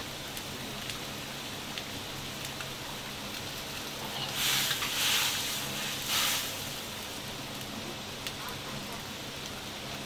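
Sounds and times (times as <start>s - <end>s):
broth boiling and bubbling: 0.0s - 10.0s.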